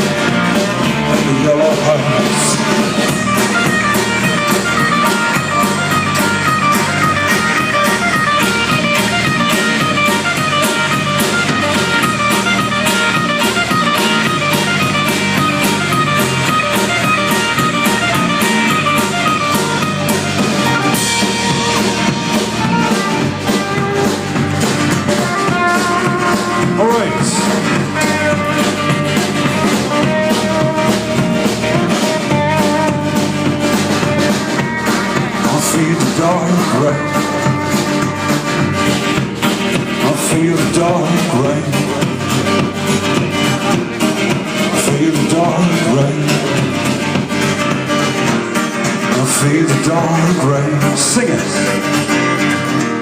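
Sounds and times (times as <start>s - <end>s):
acoustic guitars: 0.0s - 53.0s
steady drum beat: 0.0s - 53.0s.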